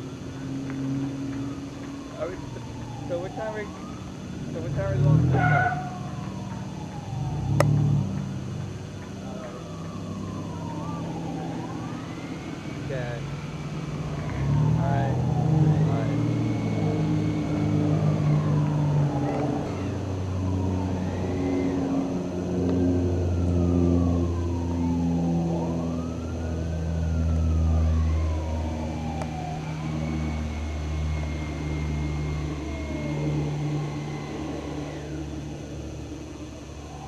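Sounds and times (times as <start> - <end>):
emergency sirens wailing: 0.0 - 37.0
low engine drone: 0.0 - 37.0
steady siren tone: 0.0 - 37.0.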